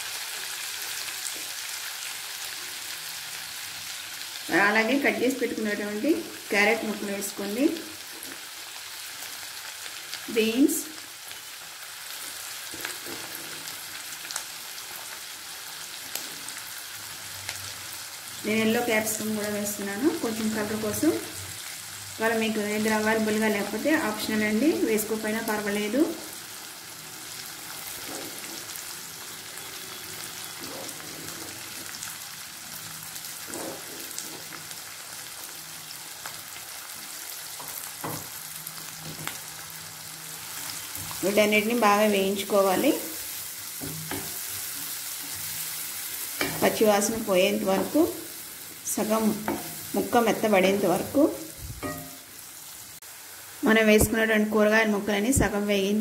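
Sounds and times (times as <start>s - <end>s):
oil sizzling in a pan: 0.0s - 56.0s.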